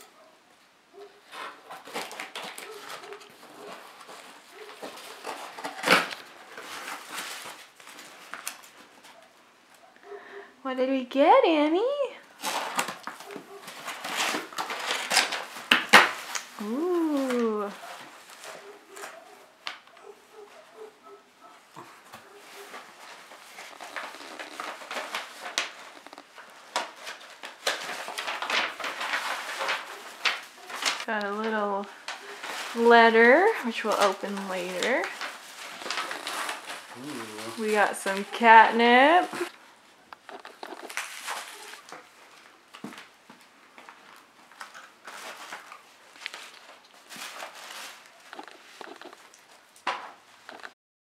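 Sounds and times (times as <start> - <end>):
tissue paper rustling: 1.0 - 9.3, 12.3 - 21.2, 21.9 - 39.6, 40.3 - 50.7.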